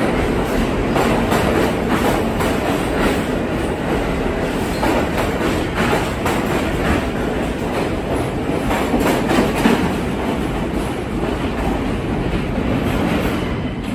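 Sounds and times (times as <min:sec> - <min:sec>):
subway train wheels clacking: 0:00.0 - 0:13.9.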